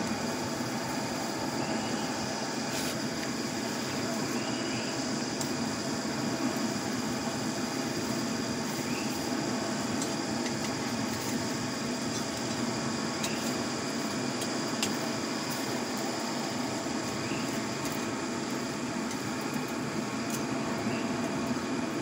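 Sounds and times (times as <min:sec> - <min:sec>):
faint fire crackles: 0:00.0 - 0:22.0.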